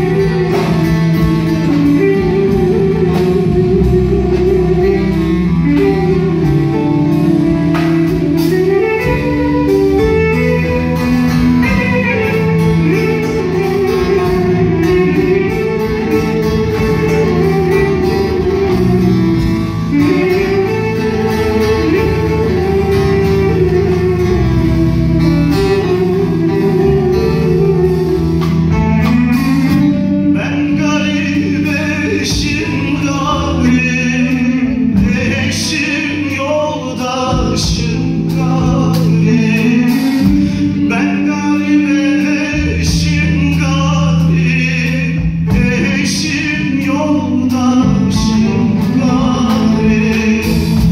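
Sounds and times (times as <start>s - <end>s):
folk band music: 0.0s - 50.9s
man singing: 0.0s - 50.9s.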